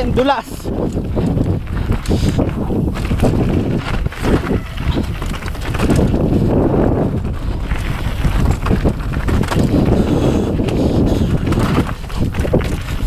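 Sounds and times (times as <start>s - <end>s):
bike knocking and clattering: 0.0s - 13.0s
wind noise on microphone: 0.0s - 13.0s
tyres crunching over stones: 0.1s - 13.0s.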